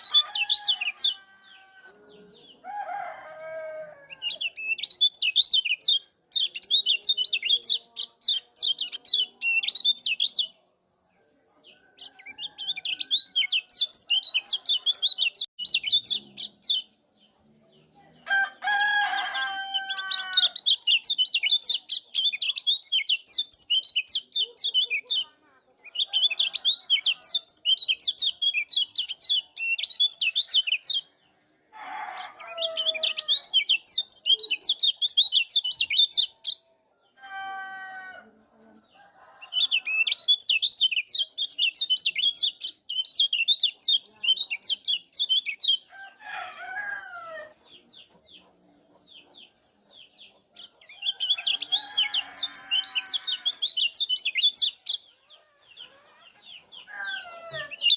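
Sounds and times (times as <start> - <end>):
bird high chirping calls: 0.0 - 2.6, 4.1 - 10.6, 11.6 - 17.0, 19.4 - 31.2, 32.1 - 36.7, 39.4 - 45.9, 47.4 - 57.9.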